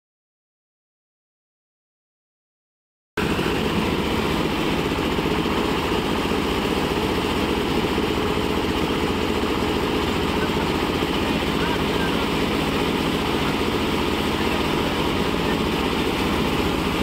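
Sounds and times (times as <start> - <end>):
concrete mixer diesel engine running: 3.2 - 17.0.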